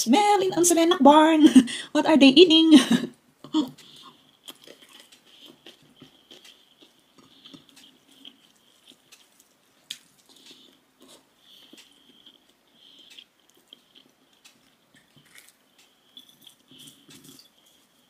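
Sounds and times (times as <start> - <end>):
person chewing food: 3.4 - 18.0.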